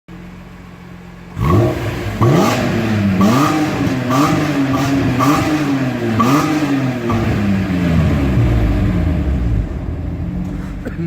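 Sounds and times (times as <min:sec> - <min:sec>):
car engine revving in blips: 0:01.3 - 0:11.0.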